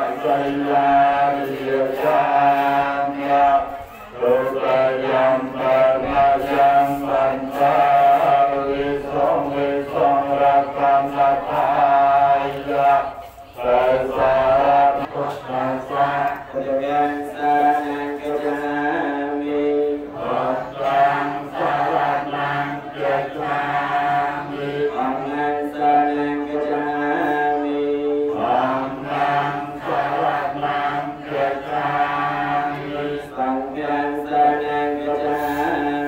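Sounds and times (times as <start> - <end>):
voices chanting held tones: 0.0 - 36.0.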